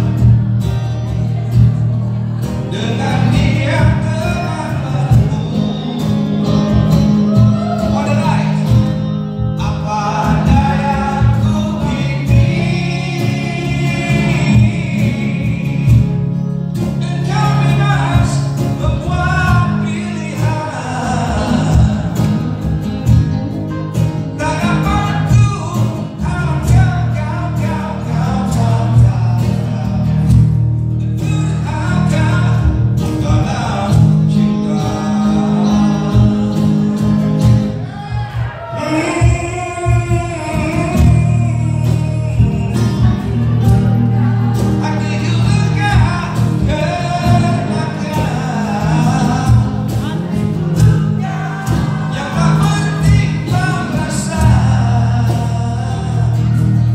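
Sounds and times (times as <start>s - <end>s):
person singing: 0.0s - 8.8s, 9.4s - 56.9s
bass line: 0.0s - 56.9s
guitar: 0.0s - 56.9s.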